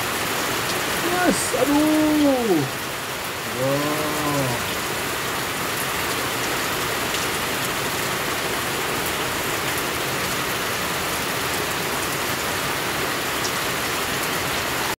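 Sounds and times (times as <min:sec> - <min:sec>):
rain on pond and stone: 0:00.0 - 0:14.9.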